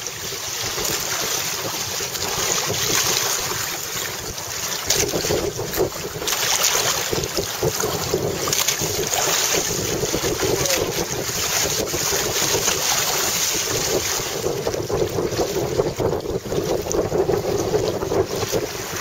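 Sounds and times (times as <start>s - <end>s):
water rushing along a hull: 0.0s - 19.0s
wind noise on microphone: 0.0s - 19.0s.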